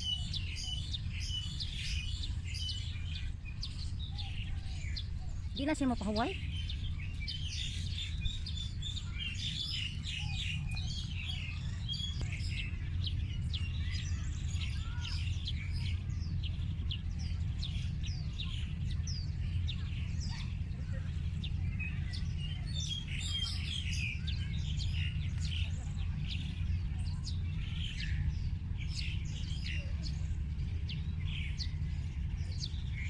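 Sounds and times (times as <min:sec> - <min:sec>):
small birds chirping: 0:00.0 - 0:33.0
steady low rumble: 0:00.0 - 0:33.0.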